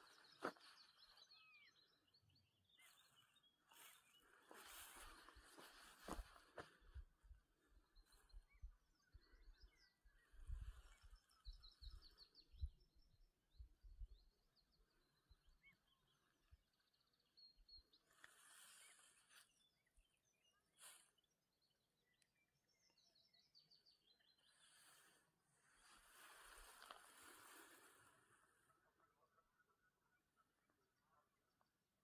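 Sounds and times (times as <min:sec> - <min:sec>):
small birds chirping: 0:00.0 - 0:31.8.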